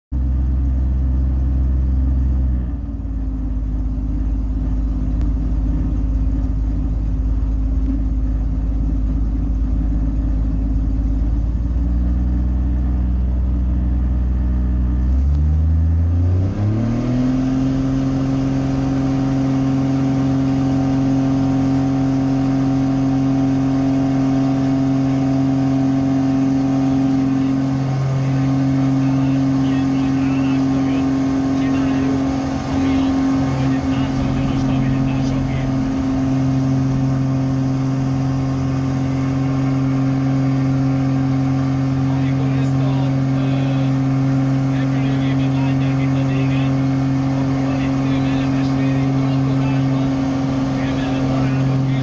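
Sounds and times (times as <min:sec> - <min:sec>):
light aircraft propeller engine: 0:00.1 - 0:52.0.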